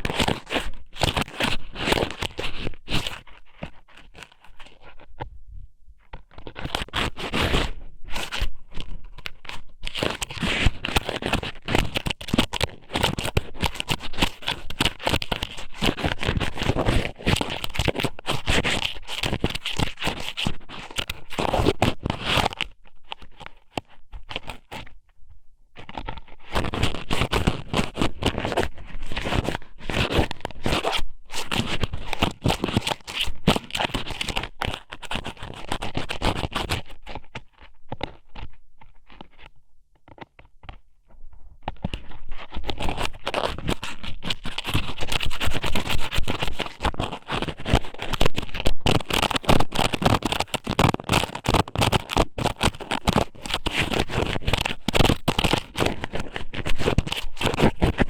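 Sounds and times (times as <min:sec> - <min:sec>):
crackling and scraping at microphone: 0:00.0 - 0:58.0.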